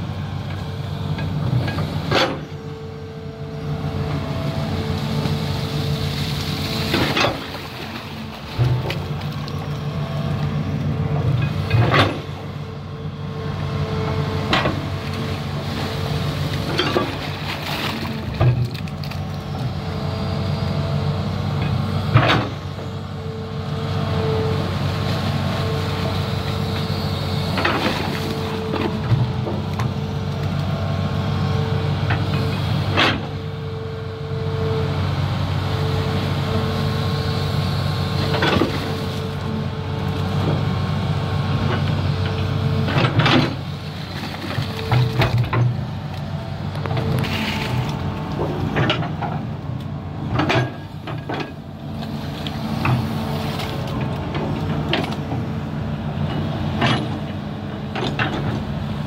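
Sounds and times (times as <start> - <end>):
excavator diesel engine under load: 0.0 - 59.0
hydraulics whining: 0.1 - 59.0.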